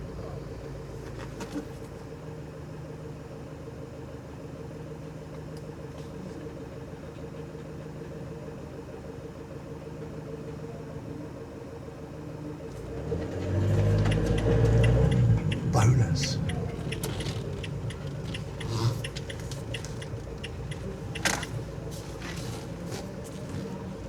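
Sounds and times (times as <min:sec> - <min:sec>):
van engine running at low revs: 0:00.0 - 0:24.0.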